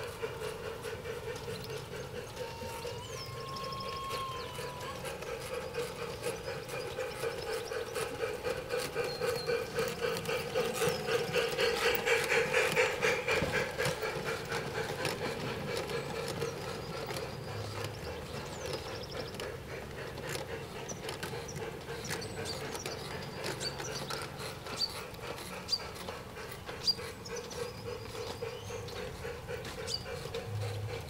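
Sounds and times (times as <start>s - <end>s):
model train motor drone: 0.0s - 31.0s
wheels clicking over rails: 0.0s - 31.0s.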